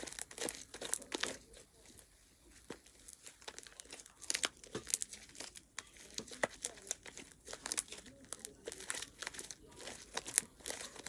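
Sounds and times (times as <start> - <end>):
slime clicking and crackling: 0.0 - 11.0.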